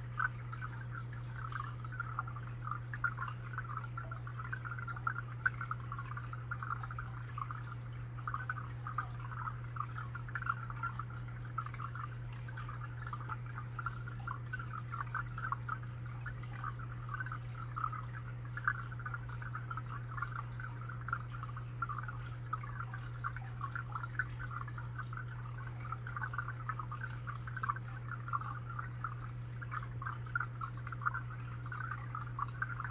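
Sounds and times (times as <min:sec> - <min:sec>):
aquarium water bubbling: 0:00.0 - 0:32.9
steady low hum: 0:00.0 - 0:32.9.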